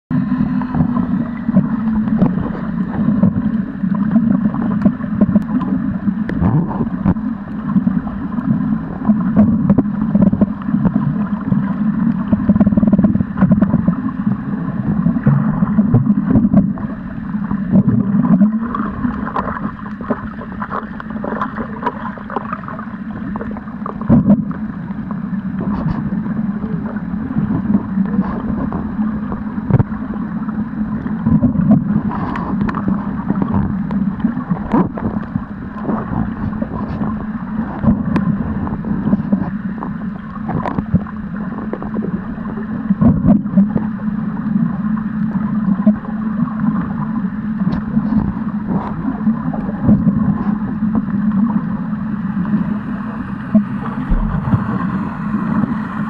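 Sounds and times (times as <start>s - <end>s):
muffled underwater rushing: 0.1s - 56.0s
swishes and knocks in water: 0.2s - 44.0s, 45.6s - 52.7s, 53.5s - 55.9s.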